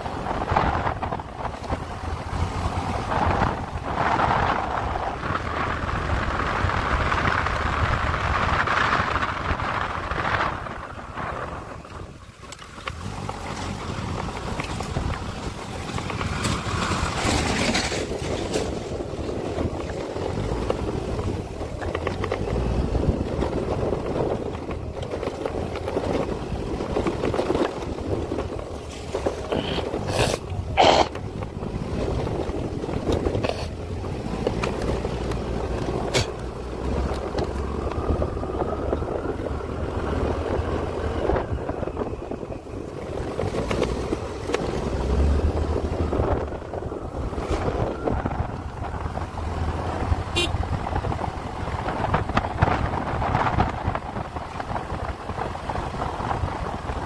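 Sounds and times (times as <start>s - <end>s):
vehicle driving on road: 0.0s - 57.0s
wind on microphone: 0.0s - 57.0s.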